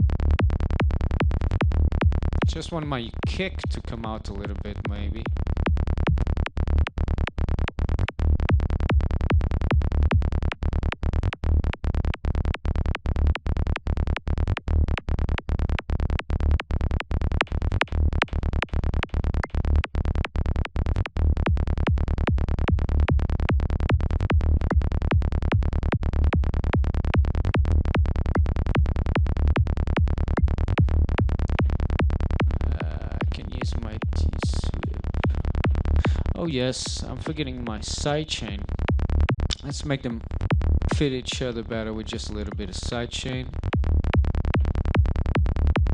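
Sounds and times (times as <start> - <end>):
electronic kick and bass loop: 0.0 - 45.9.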